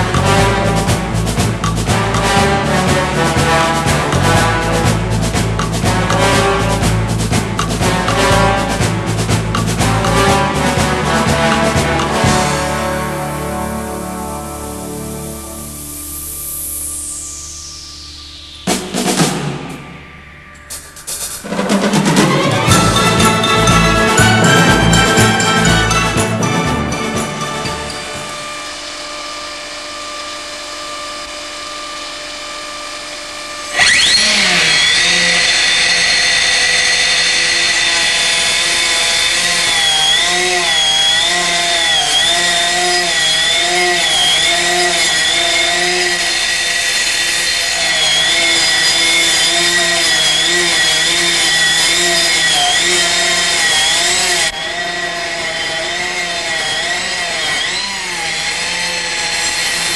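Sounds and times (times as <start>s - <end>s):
stone cutter disc whining: 0.0s - 59.9s.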